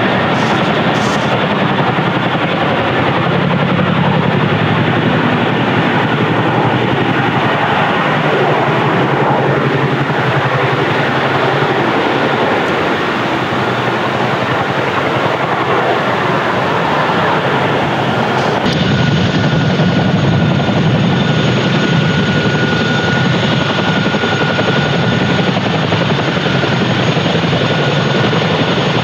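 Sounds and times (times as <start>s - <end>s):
helicopter rotor chop: 0.0s - 29.0s.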